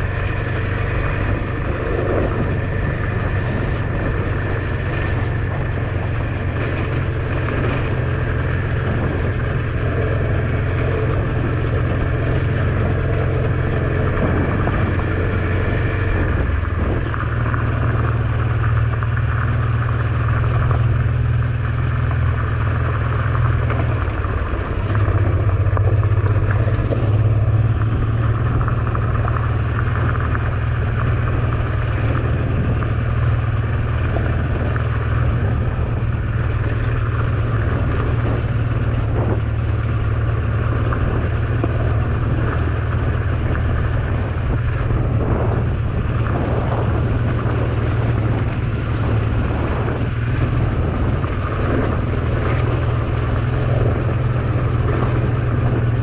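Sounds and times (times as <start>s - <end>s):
motorcycle engine running: 0.0s - 56.0s
road and air noise: 0.0s - 56.0s.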